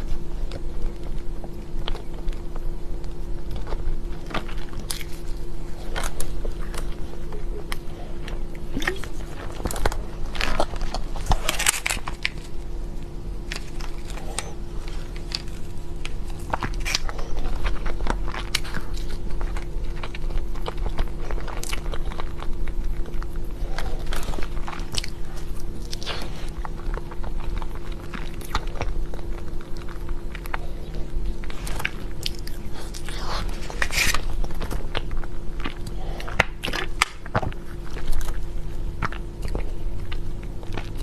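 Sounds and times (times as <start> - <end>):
biting and chewing cake: 0.0 - 41.0
steady low hum: 0.0 - 41.0.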